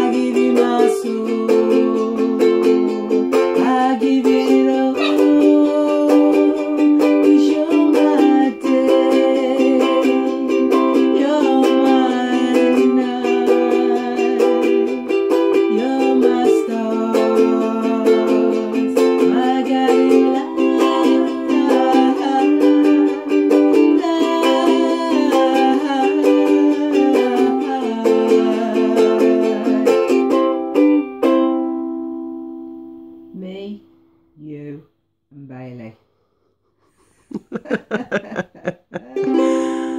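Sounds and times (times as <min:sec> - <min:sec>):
ukulele strumming: 0:00.0 - 0:33.2, 0:37.4 - 0:39.9.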